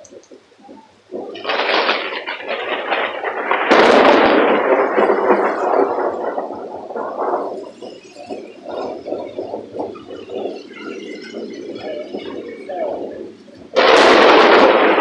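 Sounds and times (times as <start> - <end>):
crackling thunderclap: 0.0 - 15.0
low thunder rumble: 0.0 - 15.0.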